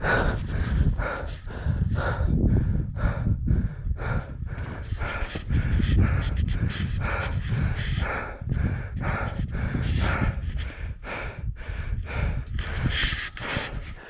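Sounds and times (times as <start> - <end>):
low rumble on microphone: 0.0 - 14.0
person panting hard: 0.0 - 14.0.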